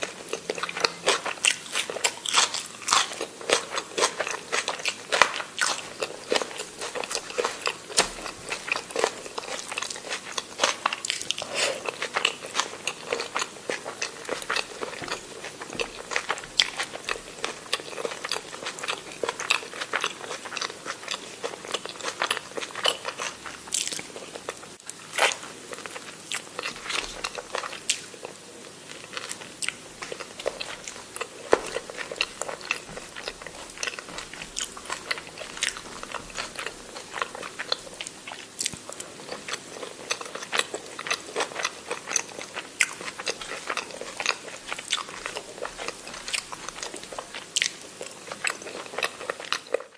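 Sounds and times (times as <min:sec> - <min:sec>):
person chewing and crunching food: 0:00.0 - 0:49.9.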